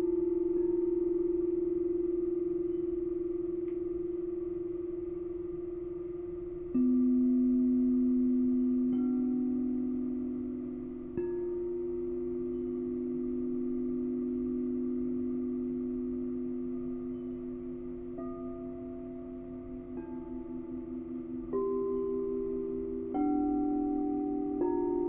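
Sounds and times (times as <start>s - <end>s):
singing bowl struck with mallet: 0.0s - 25.0s
singing bowls ringing hum: 0.0s - 25.0s.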